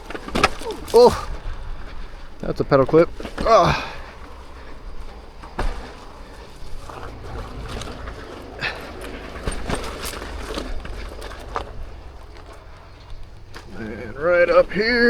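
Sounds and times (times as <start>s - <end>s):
tyre rumbling on dirt trail: 0.0s - 15.0s
wheel and pedals knocking rocks: 0.0s - 15.0s.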